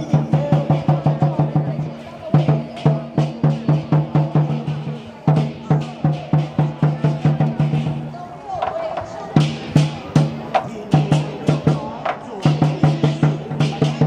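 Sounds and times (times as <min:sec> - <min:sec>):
large drum beaten fast: 0:00.0 - 0:14.0.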